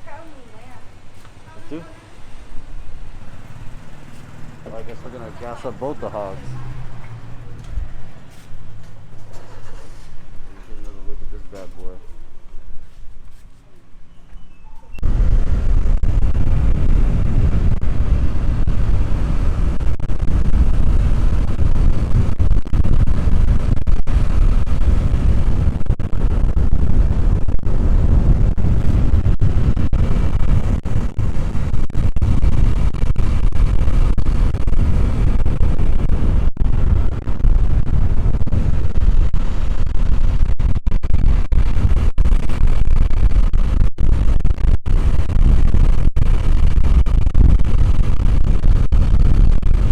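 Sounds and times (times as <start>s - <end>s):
wind rumble on microphone: 0.0s - 13.4s, 14.4s - 49.9s
vehicle noise: 0.0s - 42.9s.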